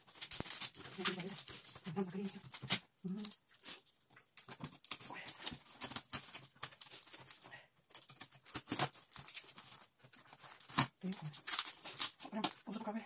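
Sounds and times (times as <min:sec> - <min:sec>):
packing tape ripping: 0:00.0 - 0:12.8.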